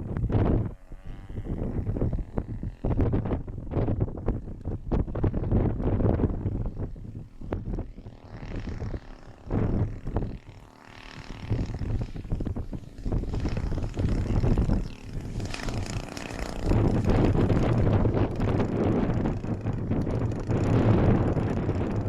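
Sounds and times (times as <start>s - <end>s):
model plane engine buzzing: 0.0s - 22.0s
wind buffeting microphone: 0.0s - 22.0s.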